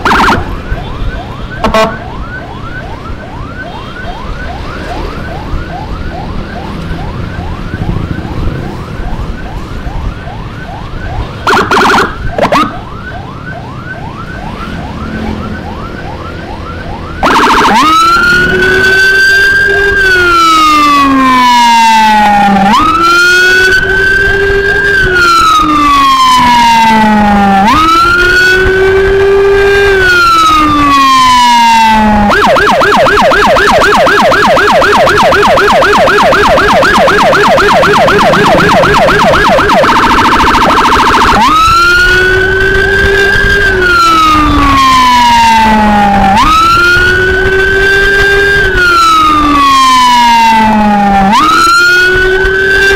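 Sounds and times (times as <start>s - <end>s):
electronic siren wailing: 0.0s - 52.9s.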